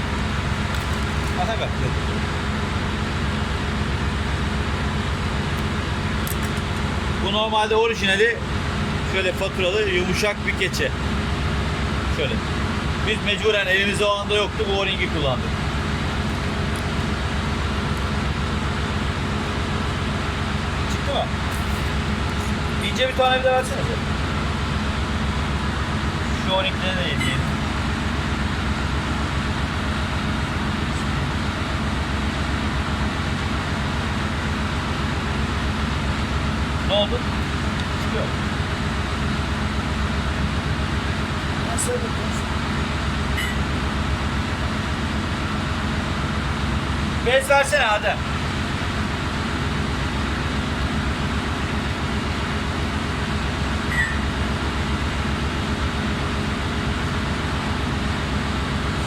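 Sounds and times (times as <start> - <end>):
low machinery hum: 0.0 - 59.0.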